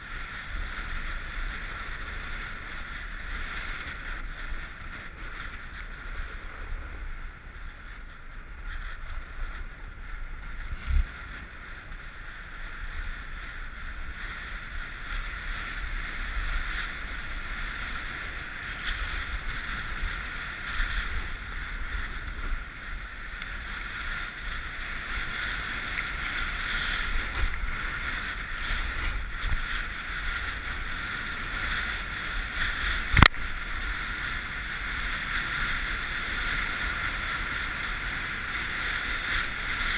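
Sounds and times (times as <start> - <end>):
snowboard scraping over snow: 0.0 - 39.9
wind on microphone: 0.0 - 39.9.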